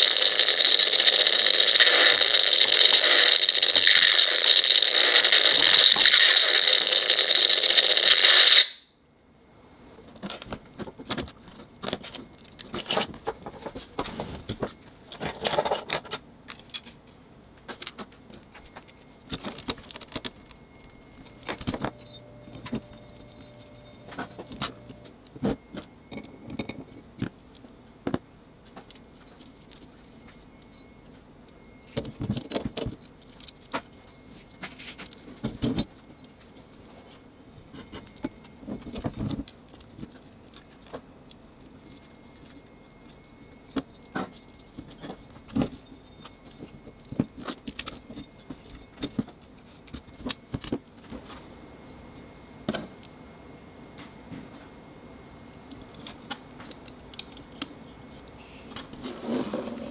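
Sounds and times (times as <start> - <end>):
clicks and rattles of small parts: 0.0 - 8.8, 10.0 - 30.8, 31.5 - 51.3, 55.7 - 59.9
faint steady hum: 0.0 - 59.9.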